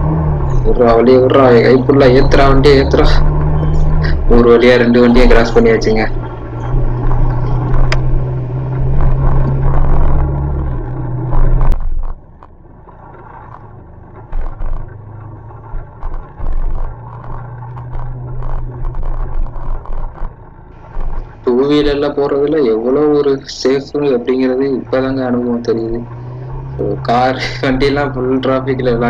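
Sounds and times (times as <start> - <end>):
motorbike engine running: 0.0 - 29.0
road noise: 0.0 - 29.0.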